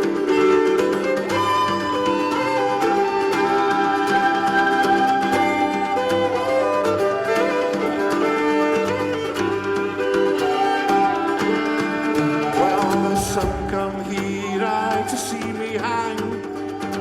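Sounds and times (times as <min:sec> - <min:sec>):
fiddle melody: 0:00.0 - 0:15.6
folk band playing: 0:00.0 - 0:17.0.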